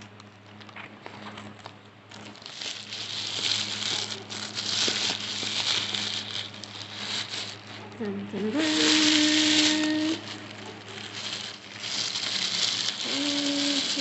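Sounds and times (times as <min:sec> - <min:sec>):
packaging crinkling and tearing: 0:00.0 - 0:14.0.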